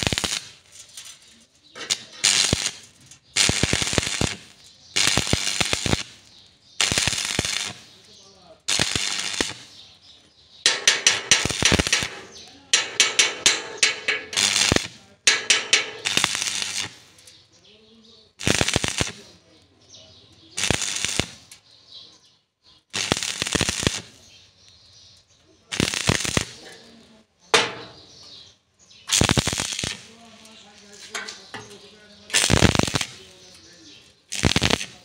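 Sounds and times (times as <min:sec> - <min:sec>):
arc welding crackling bursts: 0:00.0 - 0:10.0, 0:10.6 - 0:17.4, 0:18.3 - 0:19.6, 0:20.3 - 0:21.7, 0:22.8 - 0:24.4, 0:25.6 - 0:27.0, 0:29.0 - 0:35.0.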